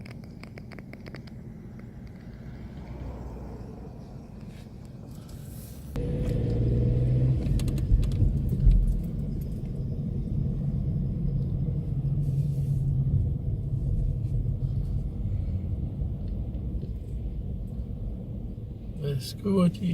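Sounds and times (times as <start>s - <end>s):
car rumbling on road: 0.0s - 19.9s.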